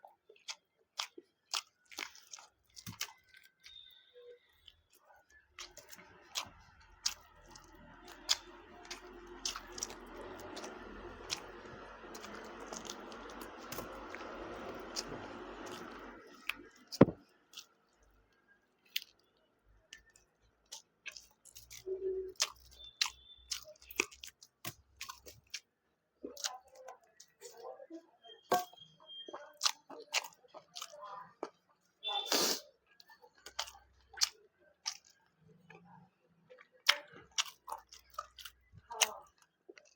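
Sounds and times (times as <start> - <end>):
chewing and mouth sounds: 0.0 - 27.8, 28.4 - 39.9.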